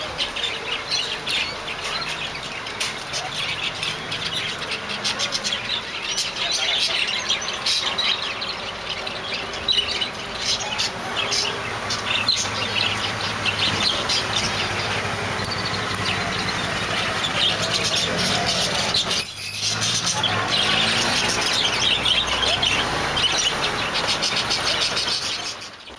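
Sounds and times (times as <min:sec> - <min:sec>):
birds chirping and calling: 0:00.0 - 0:25.9.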